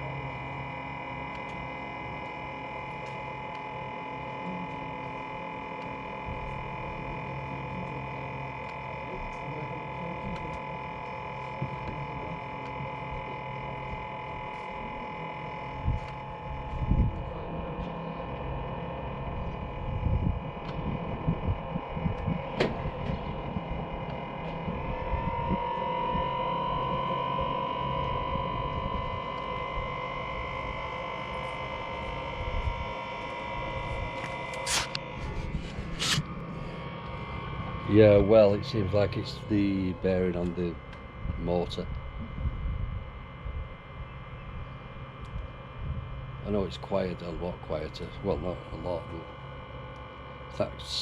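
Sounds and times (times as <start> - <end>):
heater fan humming and whining: 0.0 - 51.0.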